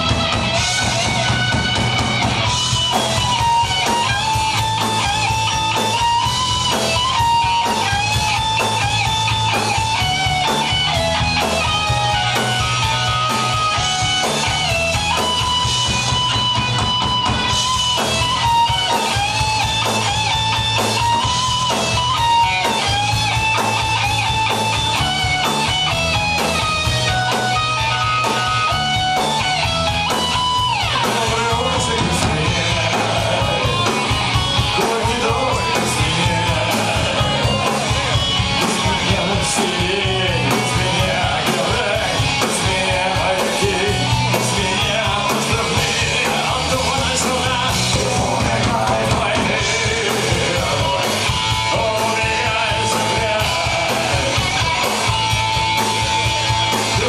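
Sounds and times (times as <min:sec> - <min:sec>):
electric guitars: 0:00.0 - 0:57.0
punk rock band playing: 0:00.0 - 0:57.0.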